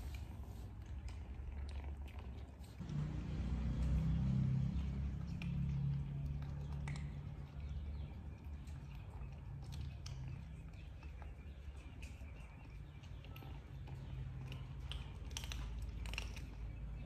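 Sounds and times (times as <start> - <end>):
kittens crunching dry kibble: 0.0 - 17.0
low background hum: 0.0 - 17.0.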